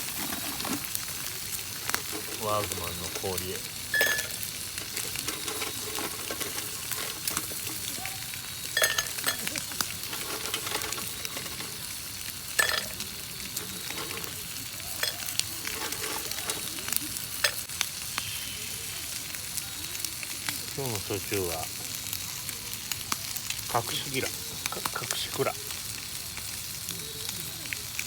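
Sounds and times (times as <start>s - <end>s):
campfire crackling and hissing: 0.0s - 28.0s.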